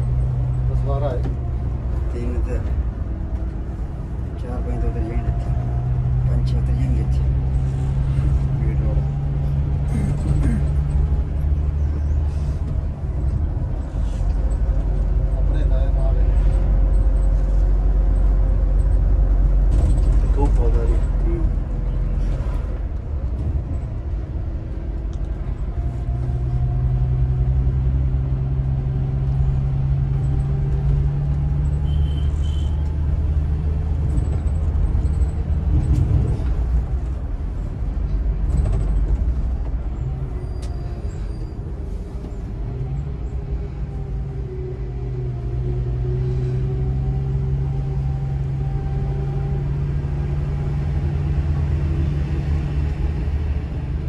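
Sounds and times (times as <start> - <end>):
coach engine droning: 0.0 - 54.0
road noise: 0.0 - 54.0.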